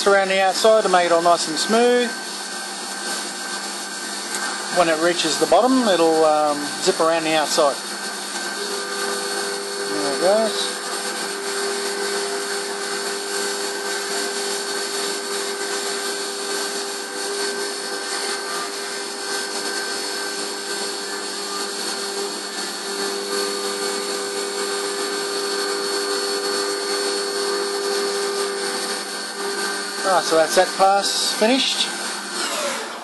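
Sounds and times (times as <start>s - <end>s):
milling machine spindle whine: 0.0s - 33.0s.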